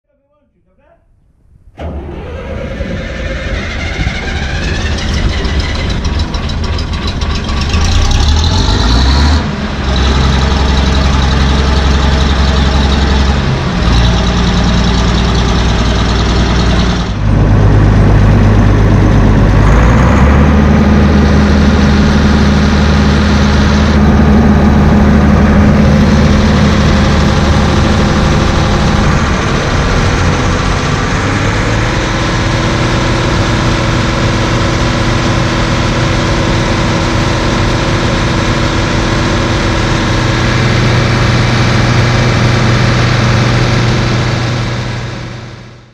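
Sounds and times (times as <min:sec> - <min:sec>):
diesel engine running: 0:01.8 - 0:45.9.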